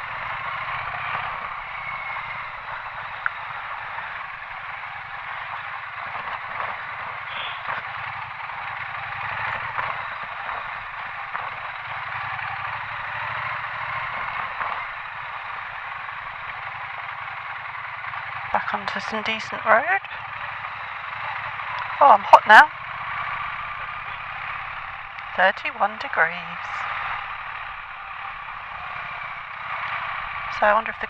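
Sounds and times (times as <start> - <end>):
motorcycle engine running: 0.0 - 31.0
tyres on rough road: 0.0 - 31.0.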